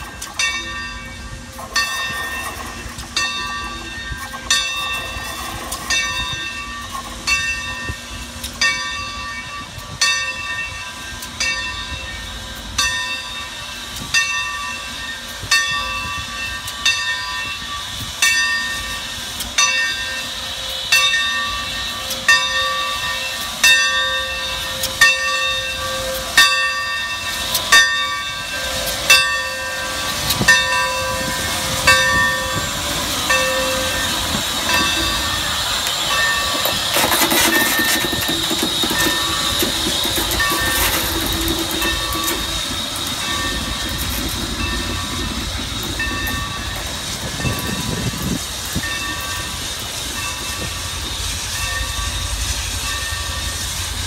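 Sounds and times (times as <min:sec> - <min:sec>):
locomotive bell ringing: 0:00.0 - 0:54.0
steam hissing: 0:00.0 - 0:54.0.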